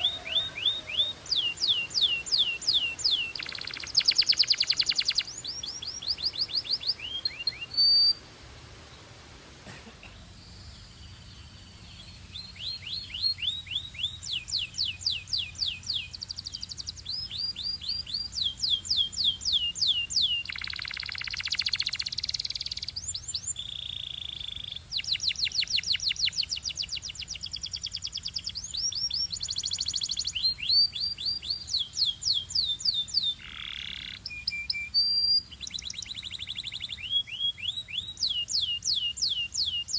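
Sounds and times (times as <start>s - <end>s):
canary singing: 0.0s - 8.2s, 10.8s - 39.9s.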